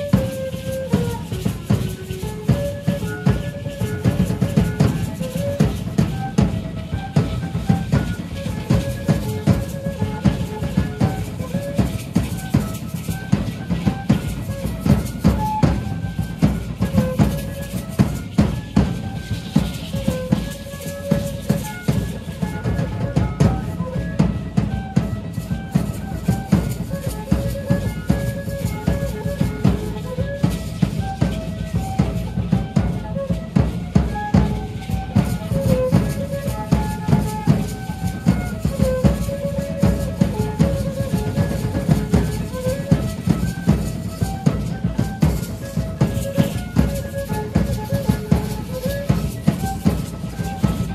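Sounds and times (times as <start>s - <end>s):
double-headed drum beating: 0.0s - 50.9s.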